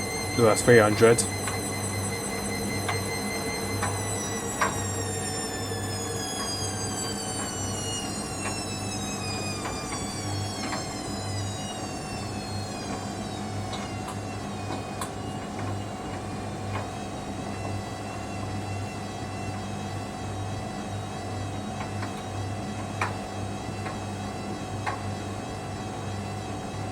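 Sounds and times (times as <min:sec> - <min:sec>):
washing machine spinning: 0:00.0 - 0:26.9.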